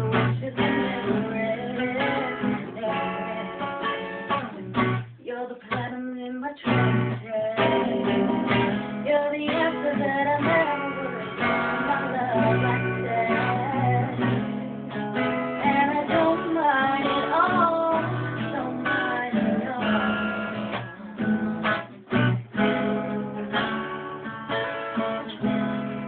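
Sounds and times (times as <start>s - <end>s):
woman singing: 0.0s - 23.9s
acoustic guitar strummed: 0.0s - 26.0s.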